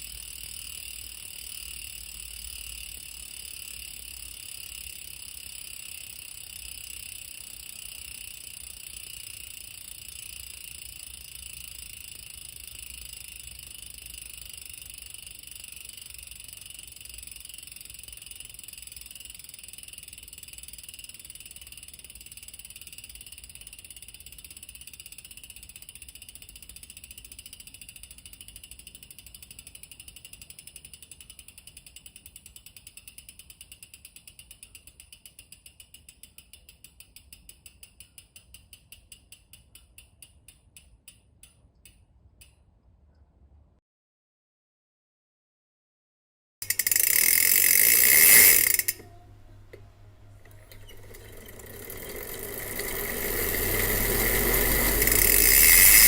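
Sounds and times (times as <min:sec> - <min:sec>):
bicycle freehub ratcheting clicks: 0:00.0 - 0:42.7, 0:46.6 - 0:49.8, 0:50.4 - 0:56.0.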